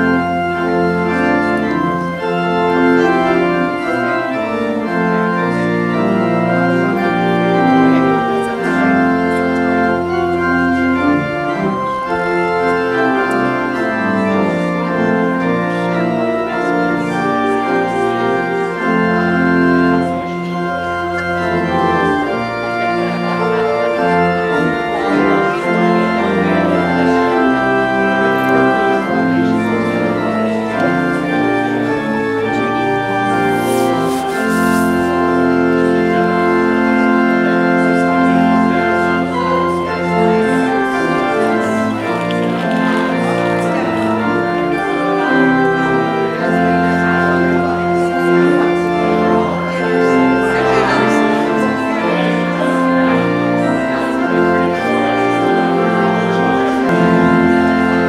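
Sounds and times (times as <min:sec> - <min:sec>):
church organ playing chords: 0:00.0 - 0:58.0.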